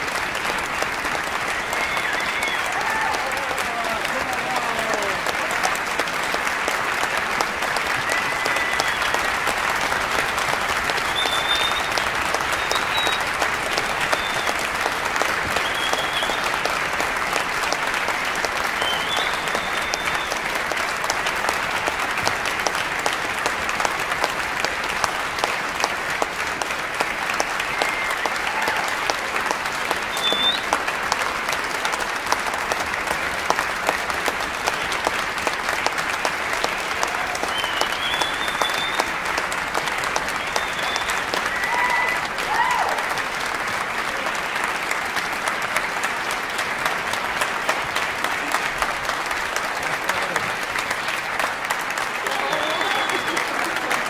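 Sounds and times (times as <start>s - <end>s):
large audience applauding: 0.0s - 54.0s.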